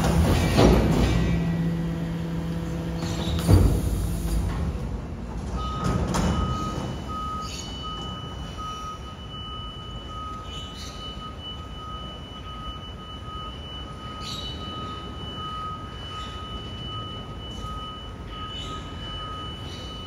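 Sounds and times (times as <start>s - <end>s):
truck reversing alarm beeping: 0.0s - 4.6s, 5.4s - 20.0s
hydraulic packer humming: 0.0s - 20.0s.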